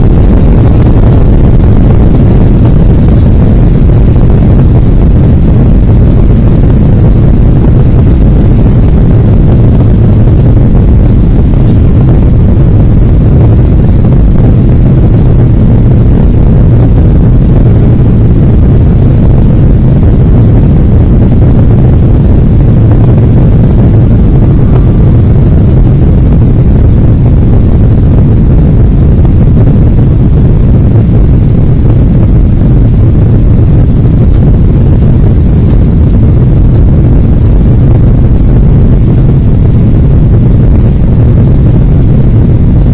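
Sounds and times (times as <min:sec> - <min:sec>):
jet engines deep rumble: 0:00.0 - 0:42.9.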